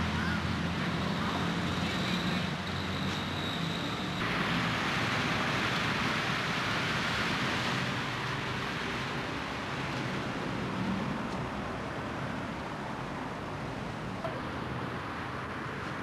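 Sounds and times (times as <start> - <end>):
low traffic hum: 0.0 - 16.0
road traffic rush: 0.0 - 16.0.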